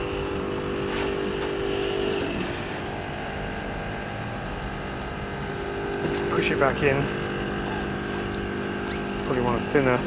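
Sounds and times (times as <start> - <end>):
air conditioning units humming: 0.0 - 10.0.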